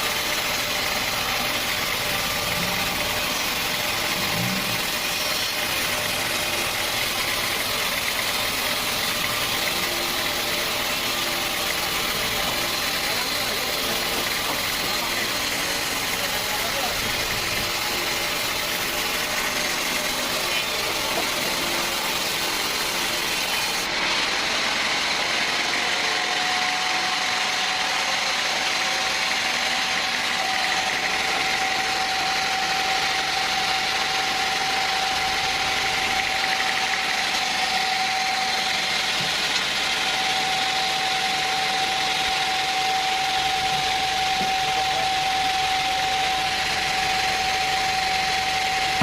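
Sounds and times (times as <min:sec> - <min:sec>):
sawmill machinery running: 0:00.0 - 0:49.0.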